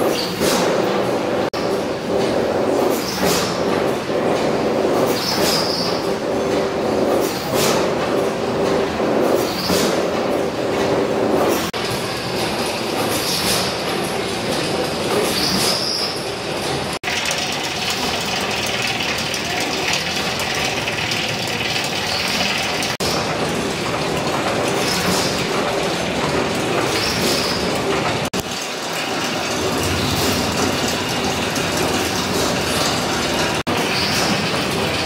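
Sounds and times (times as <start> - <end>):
machinery clattering and rumbling: 0.0 - 35.0.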